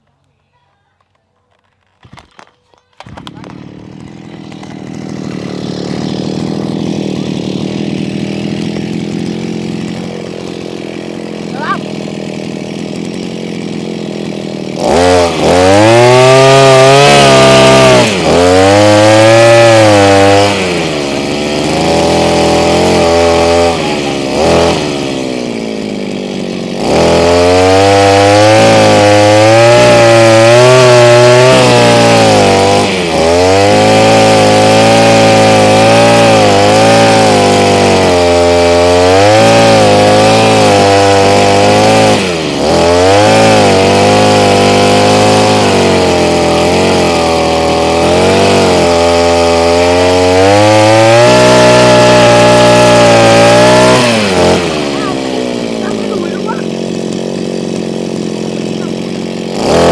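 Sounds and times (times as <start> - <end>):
brush cutter engine revving: 2.1 - 59.9.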